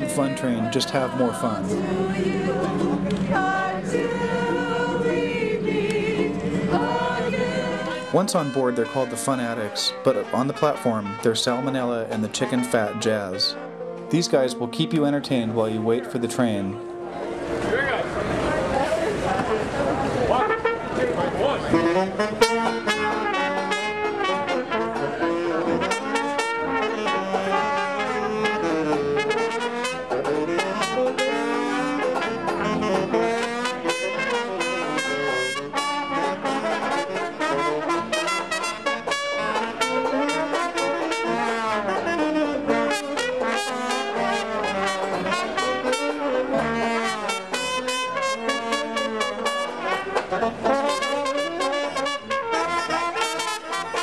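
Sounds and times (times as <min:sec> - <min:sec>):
live jazz band with brass: 0:00.0 - 0:54.0.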